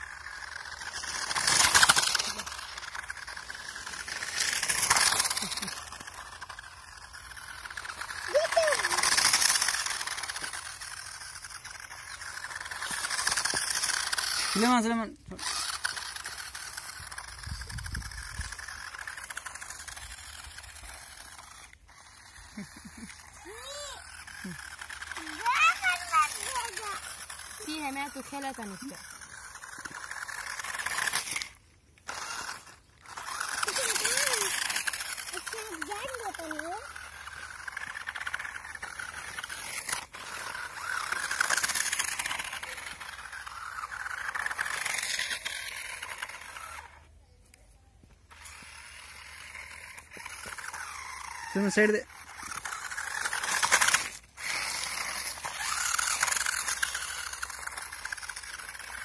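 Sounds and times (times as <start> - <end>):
toy car motor clicking rattle: 0.0 - 59.0.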